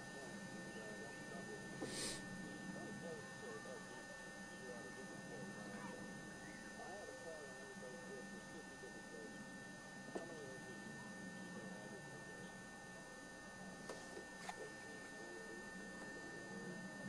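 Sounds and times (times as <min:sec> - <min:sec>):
distant indistinct voices: 0:00.0 - 0:17.0
electrical hum: 0:00.0 - 0:17.0.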